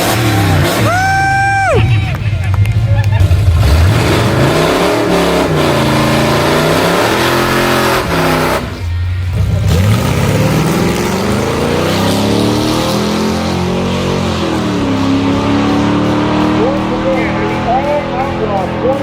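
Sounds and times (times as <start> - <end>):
car engine revving hard: 0.0 - 19.0.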